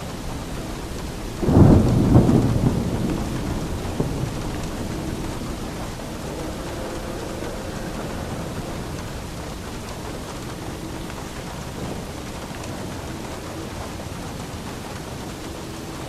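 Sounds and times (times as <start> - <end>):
steady rainfall: 0.0 - 16.0
thunderclap: 0.0 - 16.0.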